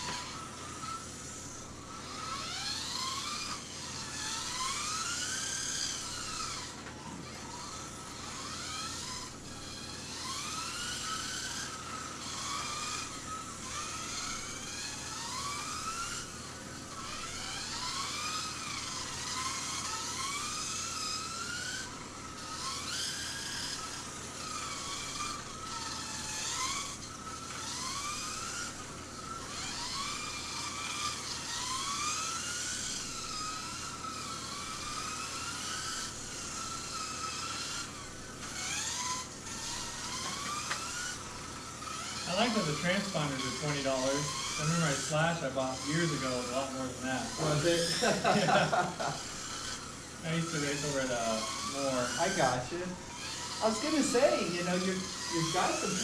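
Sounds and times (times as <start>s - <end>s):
toy car electric motor whining: 0.0s - 56.0s.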